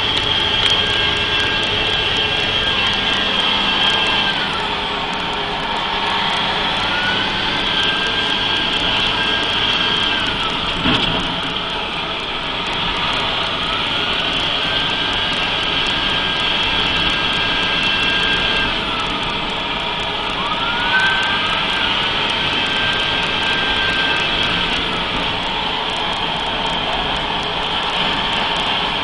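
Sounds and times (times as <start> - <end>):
diesel engine revving: 0.0 - 29.0
turbo whine: 0.0 - 29.0.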